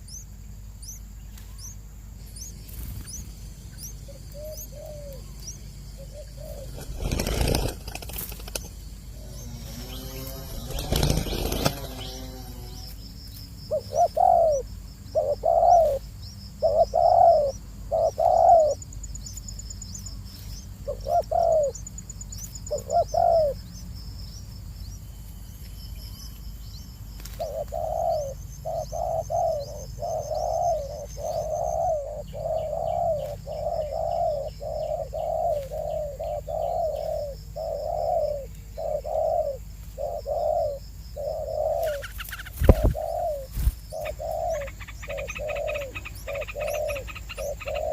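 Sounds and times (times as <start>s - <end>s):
bird low calls: 0.0s - 13.1s, 13.7s - 23.8s, 26.0s - 47.9s.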